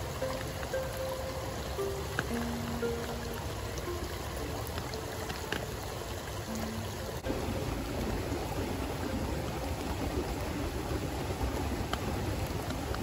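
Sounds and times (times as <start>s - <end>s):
soft background music: 0.0s - 13.0s
stream water flowing: 0.0s - 13.0s.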